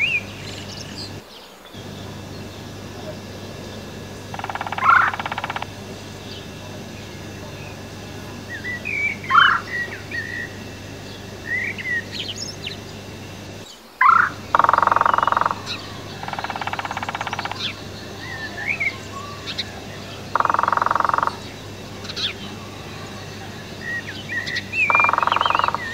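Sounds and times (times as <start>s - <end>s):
small birds chirping: 0.0s - 25.9s
woodpecker drumming: 1.8s - 25.9s.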